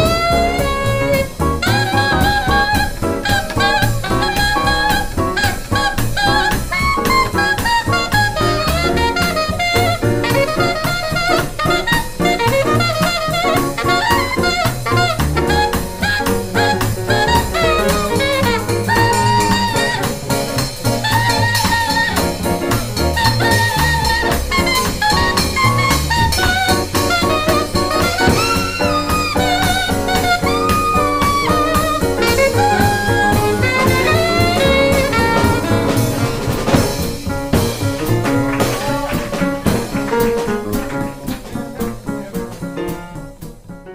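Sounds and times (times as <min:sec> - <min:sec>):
alto saxophone solo: 0:00.0 - 0:43.4
piano: 0:00.0 - 0:43.9
walking double bass: 0:00.0 - 0:43.9.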